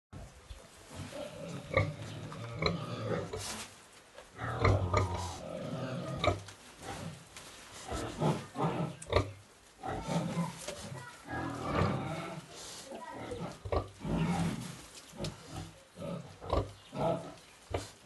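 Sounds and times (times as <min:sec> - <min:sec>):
pigs grunting: 0:00.9 - 0:03.5, 0:04.4 - 0:07.2, 0:07.8 - 0:18.0.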